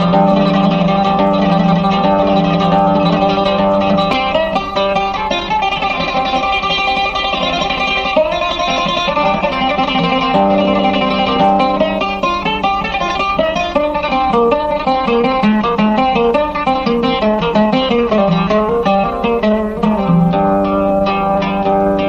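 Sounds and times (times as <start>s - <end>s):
plucked string instrument melody: 0.0s - 22.0s.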